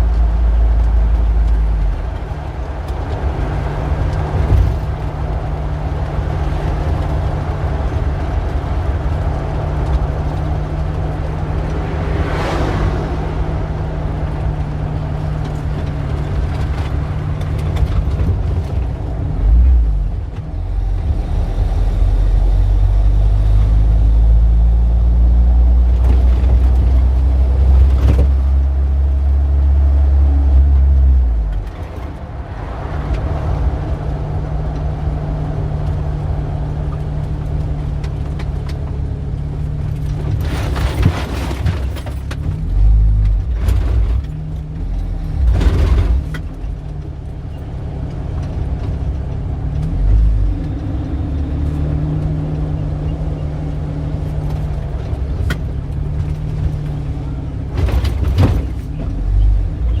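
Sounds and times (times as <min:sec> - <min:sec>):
deep engine rumble: 0:00.0 - 1:00.0
vehicles passing: 0:00.0 - 1:00.0.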